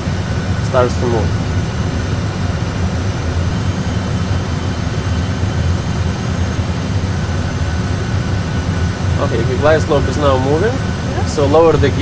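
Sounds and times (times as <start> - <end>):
aircraft cockpit rumble: 0.0 - 12.0.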